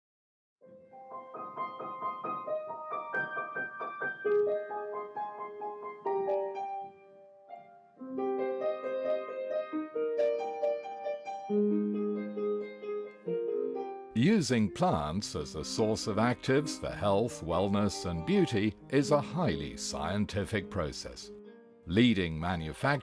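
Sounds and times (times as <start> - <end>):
gentle piano music: 0.6 - 23.0.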